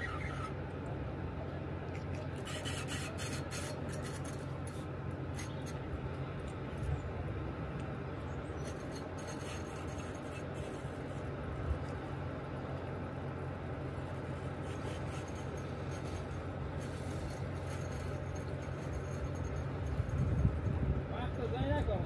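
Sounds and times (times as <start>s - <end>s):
river water rumbling: 0.0s - 21.2s.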